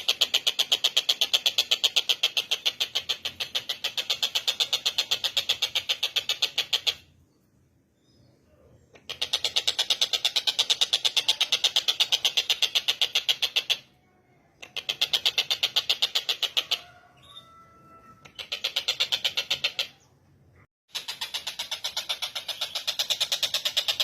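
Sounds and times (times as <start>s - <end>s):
bird chattering calls: 0.0s - 7.2s, 8.8s - 14.0s, 14.6s - 17.6s, 18.2s - 20.1s, 20.9s - 24.0s.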